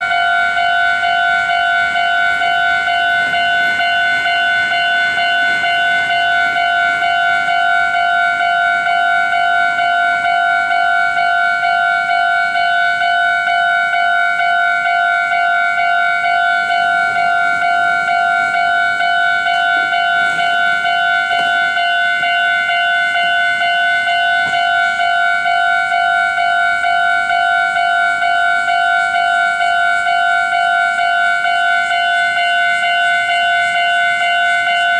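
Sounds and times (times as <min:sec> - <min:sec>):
level crossing warning bell ringing: 0:00.0 - 0:34.9.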